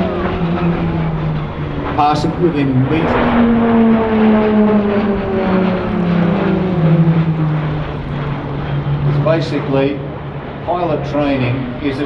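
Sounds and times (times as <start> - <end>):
propeller plane passing low: 0.0 - 12.0.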